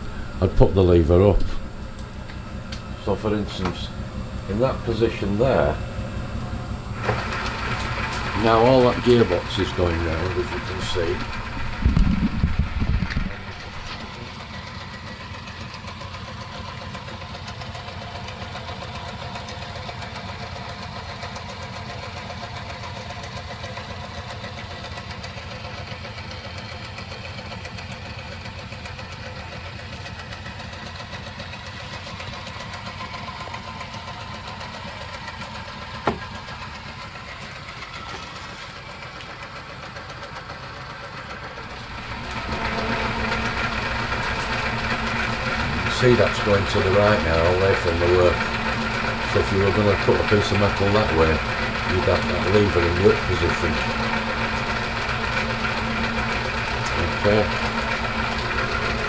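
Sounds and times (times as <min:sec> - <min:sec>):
lathe running: 0:00.0 - 0:59.0.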